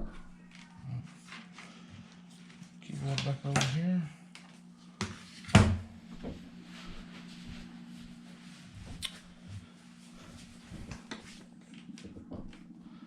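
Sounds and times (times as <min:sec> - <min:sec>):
low hum: 0:00.0 - 0:05.0, 0:05.6 - 0:13.0.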